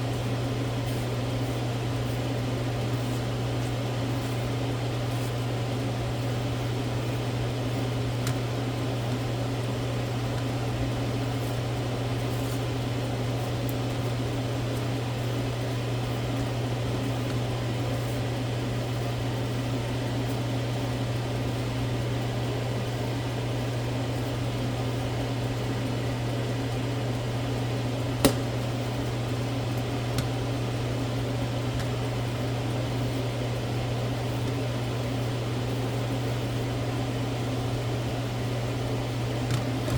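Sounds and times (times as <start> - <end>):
appliance humming: 0.0 - 39.9.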